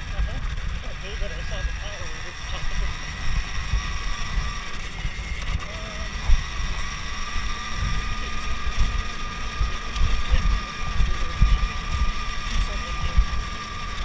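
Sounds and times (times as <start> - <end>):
electric motor and chain whine: 0.0 - 14.0
wheels rumbling over gravel: 0.0 - 14.0.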